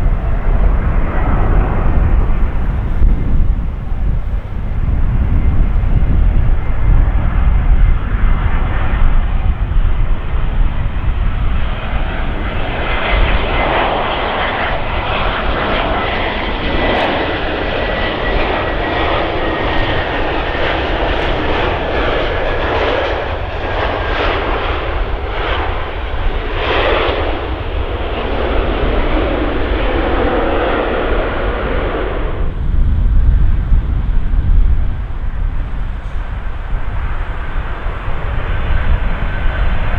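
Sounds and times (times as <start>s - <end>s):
jet airliner engine noise: 0.0s - 39.9s
low rumble: 0.0s - 39.9s.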